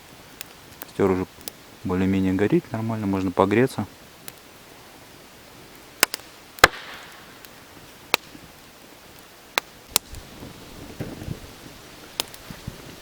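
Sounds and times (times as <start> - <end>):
campfire pops and cracks: 0.0 - 13.0.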